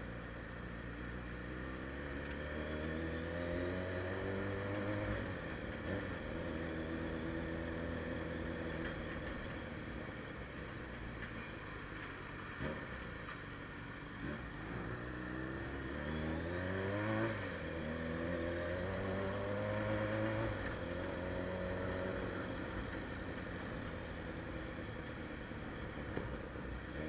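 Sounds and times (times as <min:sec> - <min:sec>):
motorcycle accelerating: 0:00.0 - 0:27.0.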